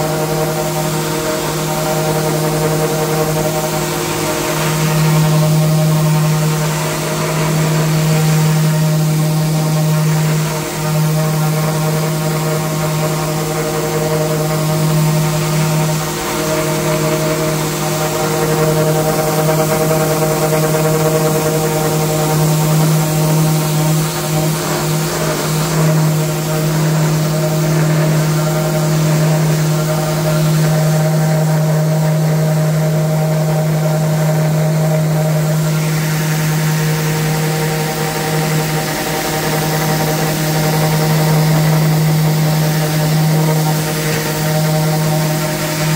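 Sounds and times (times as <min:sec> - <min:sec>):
orbital sander running: 0:00.0 - 0:45.9.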